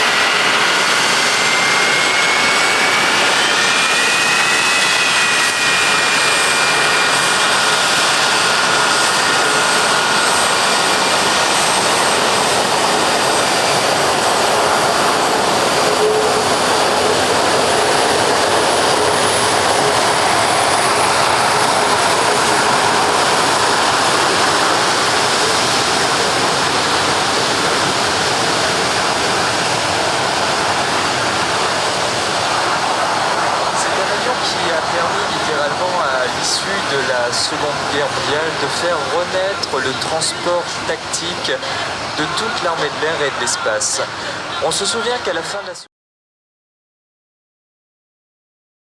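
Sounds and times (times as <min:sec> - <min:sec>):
jet flying by: 0:00.0 - 0:45.5
high jet engine whine: 0:00.0 - 0:45.9.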